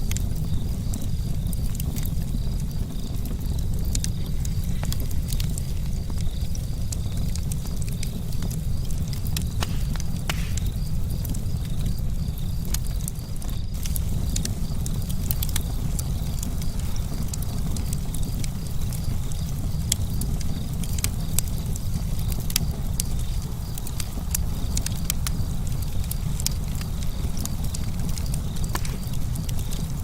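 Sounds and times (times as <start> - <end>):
campfire crackling and popping: 0.0 - 30.0
low rumble of fire: 0.0 - 30.0.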